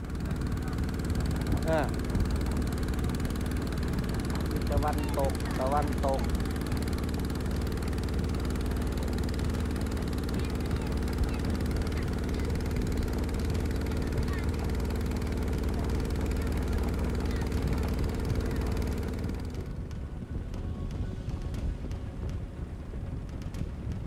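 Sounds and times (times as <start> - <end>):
boat engine low hum: 0.0 - 24.0.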